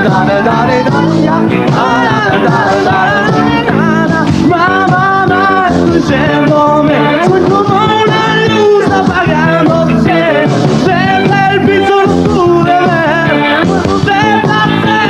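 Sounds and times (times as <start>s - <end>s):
men singing: 0.0s - 15.0s
rock band playing live: 0.0s - 15.0s.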